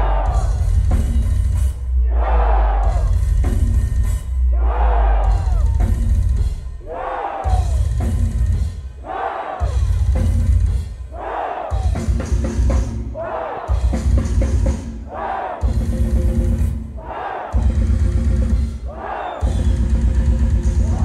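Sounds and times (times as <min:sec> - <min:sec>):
drum solo: 0:00.0 - 0:01.8, 0:05.2 - 0:08.8, 0:09.6 - 0:21.0.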